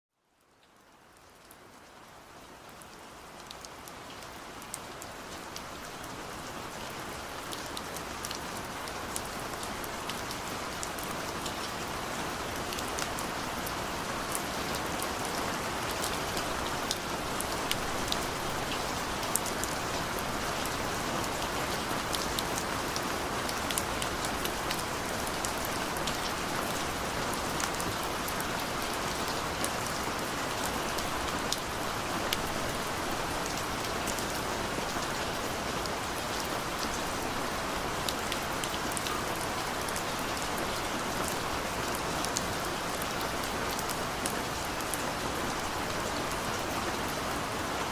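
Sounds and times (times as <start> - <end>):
steady rain hiss: 0.2 - 47.9
raindrops ticking on a surface: 0.3 - 46.6.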